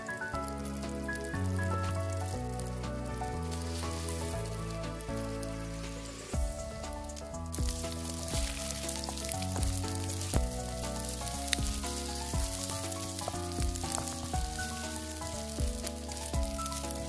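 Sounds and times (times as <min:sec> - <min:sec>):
food sizzling in frying pan: 0:00.0 - 0:17.0
gentle background music: 0:00.0 - 0:17.0.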